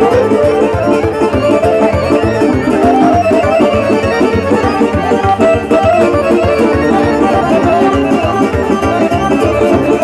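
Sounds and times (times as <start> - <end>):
accordion playing fast melody: 0.0 - 10.0
electronic keyboards: 0.0 - 10.0
bass beat: 1.6 - 10.0.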